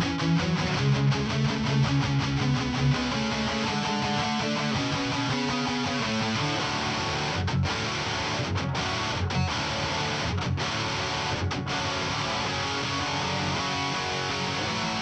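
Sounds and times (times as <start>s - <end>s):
rock music with stop-time breaks: 0.0s - 15.0s.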